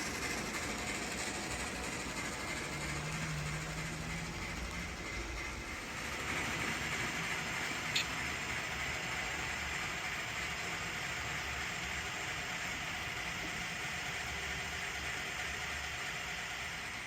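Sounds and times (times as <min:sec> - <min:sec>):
model train rolling: 0:00.0 - 0:17.0.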